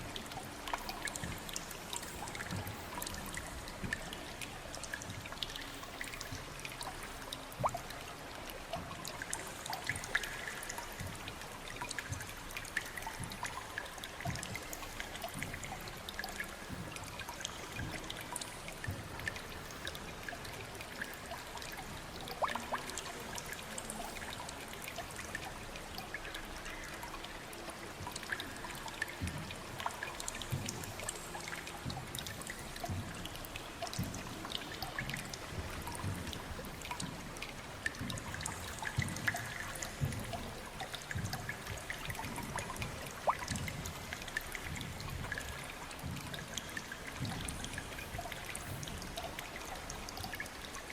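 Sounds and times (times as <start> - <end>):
small water drips: 0.0 - 50.9
water trickling and splashing: 0.0 - 50.9.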